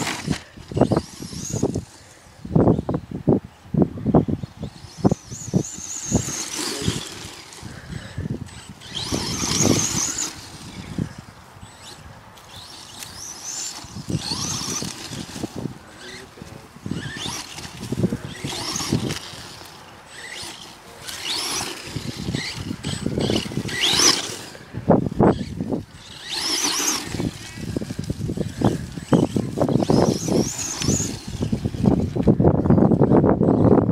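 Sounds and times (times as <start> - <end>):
electric motor whining: 0.0 - 3.0, 4.2 - 33.9
gritty noise of rc truck: 0.0 - 33.9.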